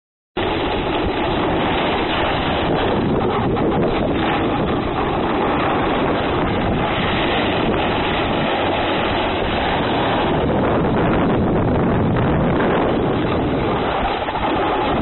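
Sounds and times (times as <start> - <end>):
wind rushing over microphone: 0.4 - 15.0.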